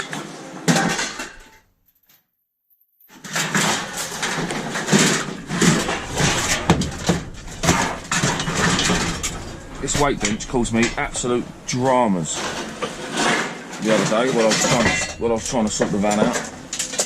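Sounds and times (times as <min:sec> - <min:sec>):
metal pieces clattering: 0:03.0 - 0:17.0
scrap metal clanking: 0:03.1 - 0:17.0.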